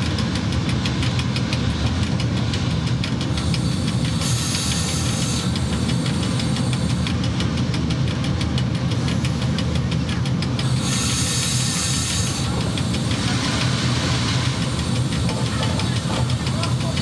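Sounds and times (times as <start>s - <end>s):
locomotive motors rumbling: 0.0s - 17.0s.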